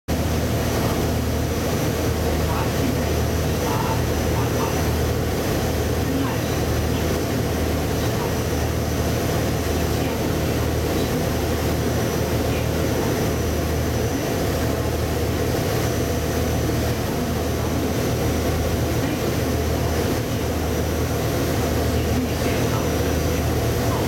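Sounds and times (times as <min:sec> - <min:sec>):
ferry engines droning: 0:00.1 - 0:24.0
rushing water noise: 0:00.1 - 0:24.0.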